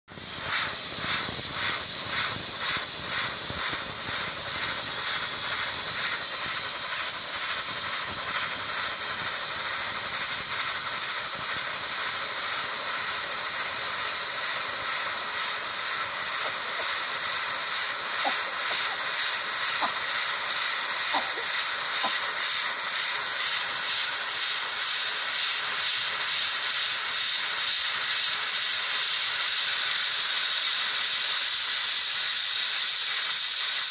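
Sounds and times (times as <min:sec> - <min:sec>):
steam hissing from pressure cooker: 0:00.1 - 0:33.9.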